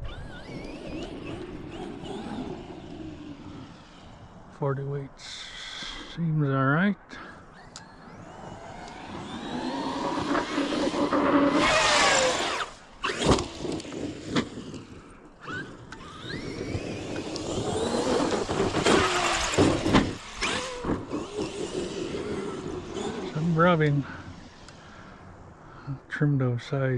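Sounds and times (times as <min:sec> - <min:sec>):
electric motor whine: 0:00.0 - 0:04.6, 0:07.2 - 0:25.4.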